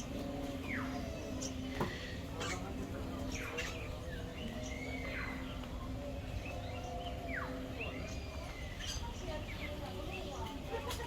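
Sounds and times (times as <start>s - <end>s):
birds chirping and whistling: 0.0s - 10.4s.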